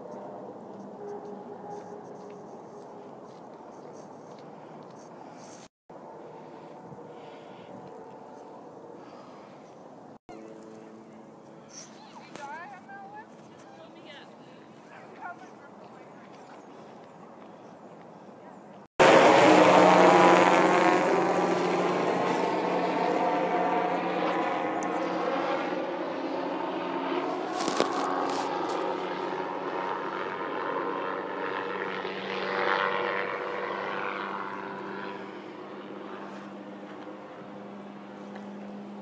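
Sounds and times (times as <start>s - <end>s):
helicopter flying overhead: 0.0s - 39.0s.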